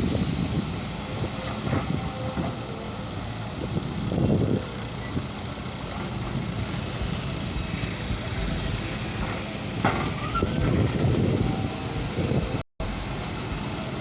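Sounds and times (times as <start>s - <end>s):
backhoe diesel engine running: 0.0s - 14.0s.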